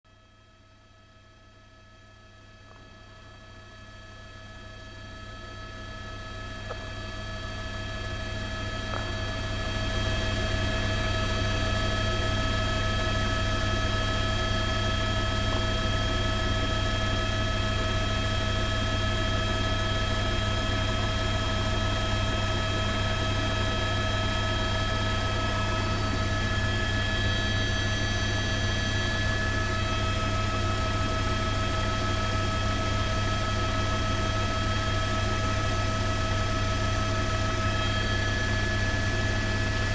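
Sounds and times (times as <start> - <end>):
helicopter engine and rotor: 0.1 - 39.9.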